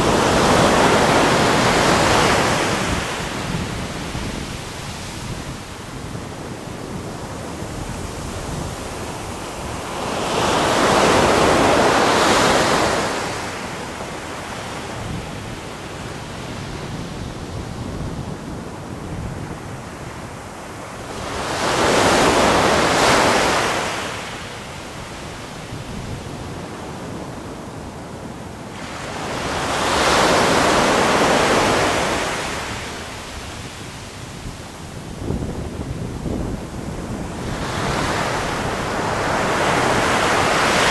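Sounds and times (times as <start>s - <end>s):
steady hiss of surf: 0.0s - 19.4s, 20.0s - 40.9s
waves crashing on beach: 0.0s - 40.9s.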